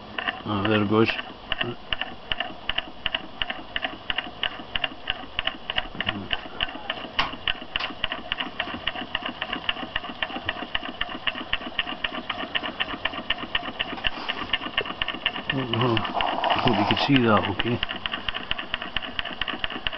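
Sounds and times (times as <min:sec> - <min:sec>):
small engine fast even clicking: 0:00.0 - 0:19.9.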